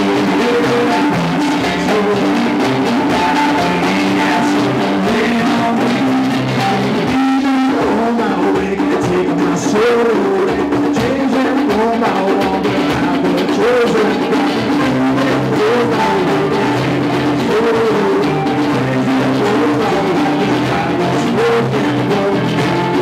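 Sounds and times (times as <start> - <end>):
acoustic guitar: 0.0 - 23.0
drums: 0.0 - 23.0
electric bass: 0.0 - 23.0
sliding melody line: 0.0 - 23.0.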